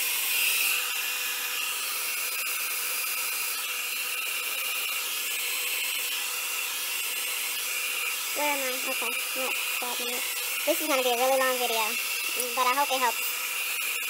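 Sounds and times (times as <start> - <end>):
handheld blow dryer running: 0.0 - 14.0.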